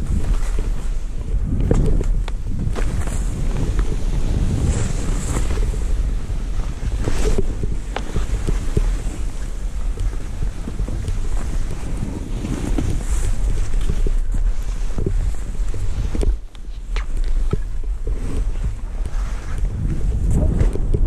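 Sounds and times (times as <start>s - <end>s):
skis swishing through snow: 0.0s - 21.0s
wind rumbling on microphone: 0.0s - 21.0s.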